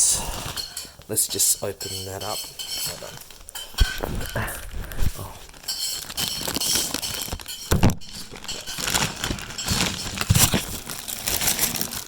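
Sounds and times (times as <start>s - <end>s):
plastic packaging rustling: 0.0s - 12.0s
small hard accessories clattering: 0.0s - 12.0s.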